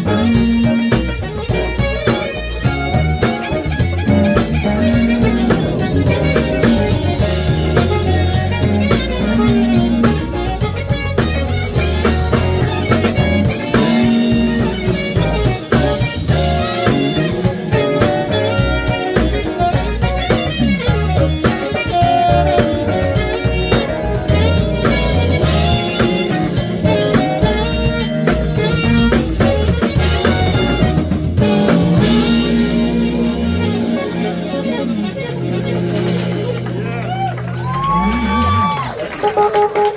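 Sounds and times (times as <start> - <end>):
drum kit: 0.0 - 39.9
electric bass: 0.0 - 39.9
electric guitar: 0.0 - 39.9
keyboards: 0.0 - 39.9
saxophone: 0.0 - 39.9.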